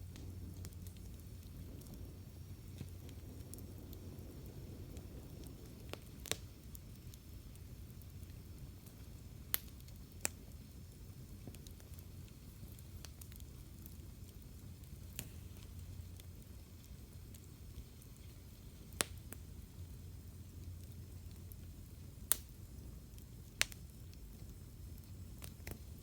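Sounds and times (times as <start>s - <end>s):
campfire crackling and popping: 0.0s - 26.0s
low steady rumble: 0.0s - 26.0s.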